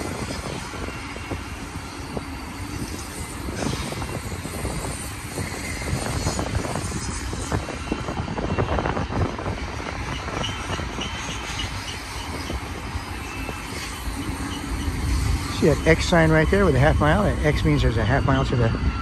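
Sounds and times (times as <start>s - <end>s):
freight train rumble: 0.0s - 19.0s.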